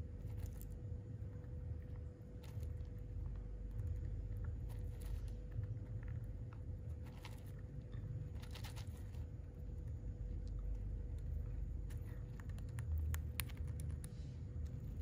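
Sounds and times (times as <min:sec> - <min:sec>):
faint steady hum: 0:00.0 - 0:15.0
hamster crunching food: 0:00.0 - 0:15.0.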